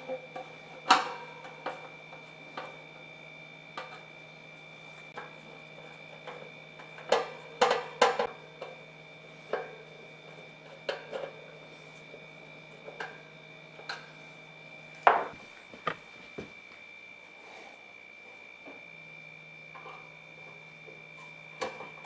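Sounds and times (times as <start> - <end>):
faint high whine: 0.0 - 22.0.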